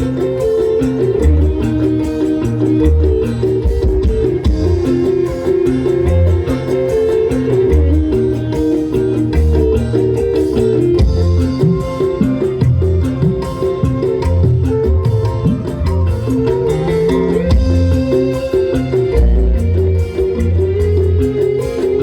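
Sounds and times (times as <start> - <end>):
live band through loud pa system: 0.0 - 22.0.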